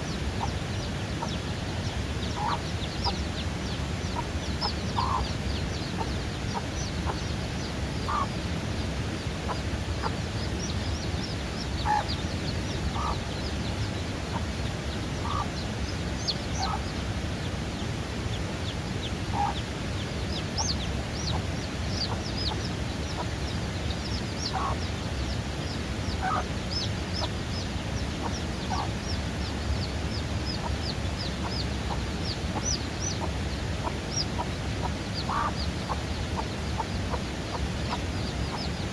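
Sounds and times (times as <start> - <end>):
chicks peeping: 0.0 - 38.9
low background noise: 0.0 - 38.9
low clucking calls: 0.3 - 8.5, 9.2 - 17.0, 19.2 - 19.7, 20.3 - 25.0, 26.1 - 38.9.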